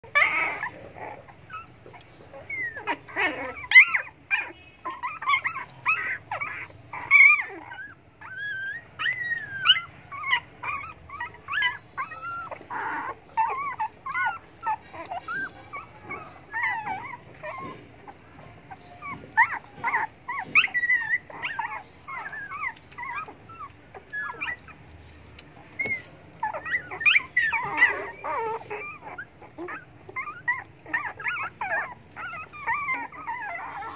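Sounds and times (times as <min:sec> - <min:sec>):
puppies whimpering and squealing: 0:00.0 - 0:33.9.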